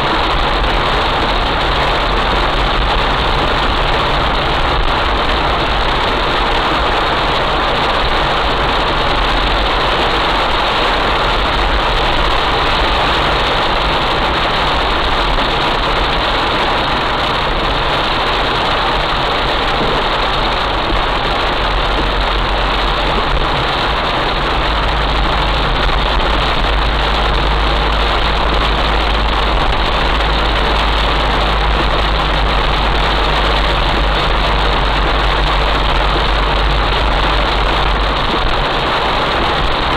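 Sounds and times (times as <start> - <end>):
car engine humming: 0.0 - 39.9
heavy rain on a car: 0.0 - 39.9.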